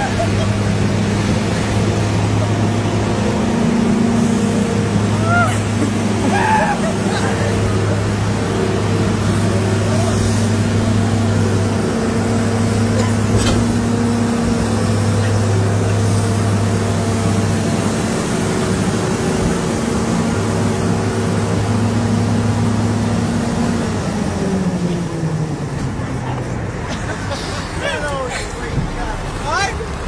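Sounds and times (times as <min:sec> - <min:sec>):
diesel engine running steadily: 0:00.0 - 0:30.0.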